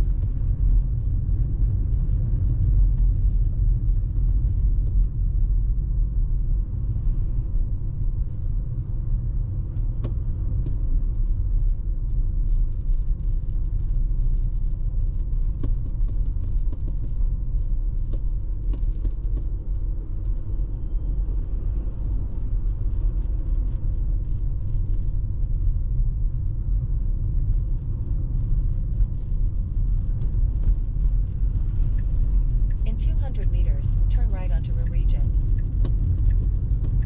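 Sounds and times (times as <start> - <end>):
road and tyre rumble: 0.0 - 37.0.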